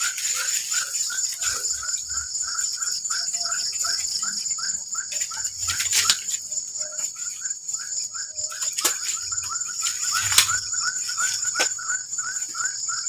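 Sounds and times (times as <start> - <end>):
insect chirping: 0.0 - 13.0
insects buzzing: 0.0 - 13.0.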